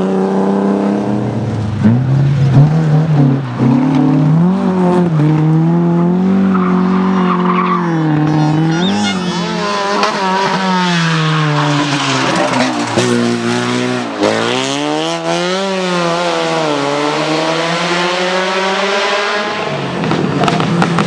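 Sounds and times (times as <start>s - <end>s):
rally car engine at full throttle: 0.0s - 21.0s.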